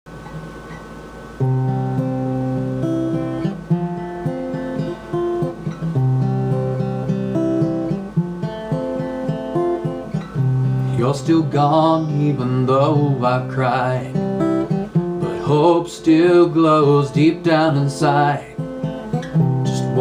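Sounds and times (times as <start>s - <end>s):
acoustic guitar strummed chords: 0.2s - 20.0s.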